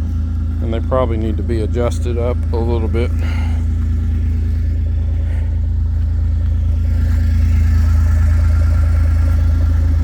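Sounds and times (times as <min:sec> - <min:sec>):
utility vehicle engine running: 0:00.0 - 0:10.0.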